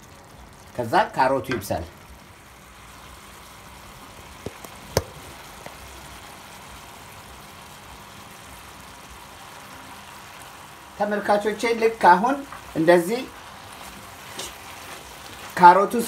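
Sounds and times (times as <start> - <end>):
vegetables sizzling in a frying pan: 0.0 - 16.0.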